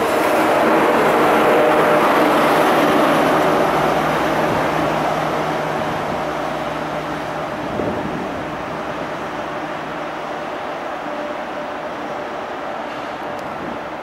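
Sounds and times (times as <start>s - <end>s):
diesel engine humming: 0.0s - 14.0s
train wheel noise: 0.0s - 14.0s.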